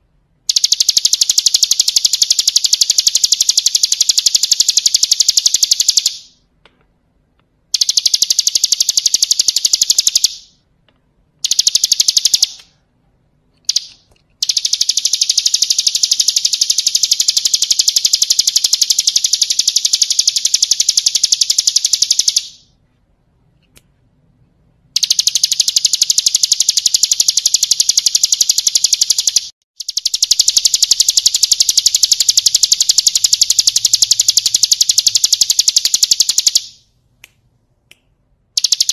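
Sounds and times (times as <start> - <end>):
bird singing rattling trill: 0.5 - 6.4, 7.7 - 10.6, 11.4 - 12.7, 13.6 - 22.8, 25.0 - 36.9, 38.6 - 38.9.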